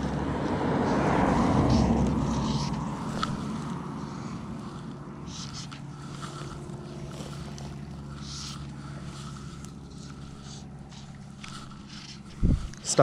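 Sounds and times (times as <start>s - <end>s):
fly line swishing: 0.0s - 13.0s
low motor hum: 0.0s - 13.0s.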